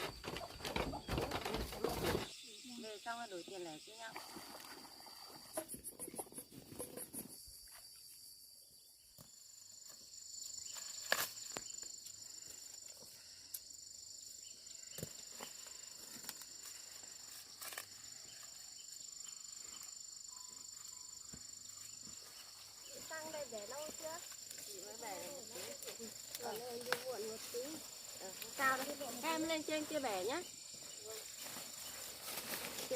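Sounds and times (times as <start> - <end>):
insects singing: 0.1 - 32.9.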